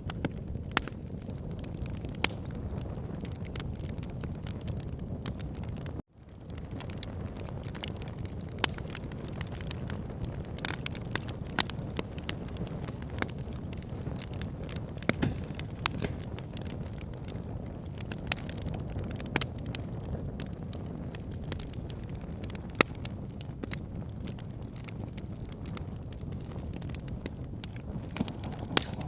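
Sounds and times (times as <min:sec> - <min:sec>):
logs crackling and popping: 0:00.0 - 0:29.0
low rush of flames: 0:00.0 - 0:29.0.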